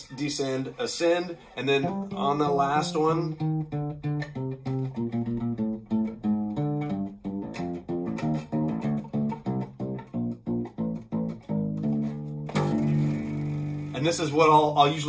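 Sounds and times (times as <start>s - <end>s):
fingerpicked acoustic bass guitar: 0.0s - 15.0s.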